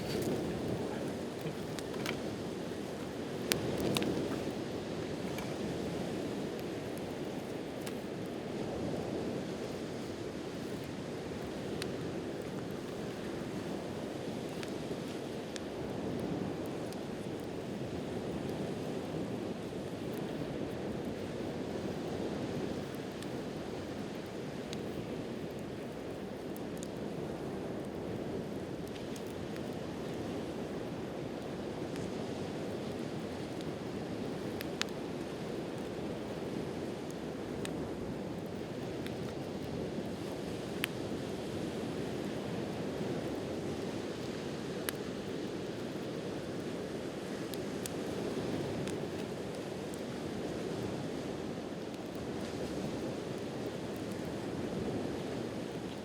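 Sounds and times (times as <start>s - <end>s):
campfire crackles: 0.0s - 56.0s
wind: 0.0s - 56.0s.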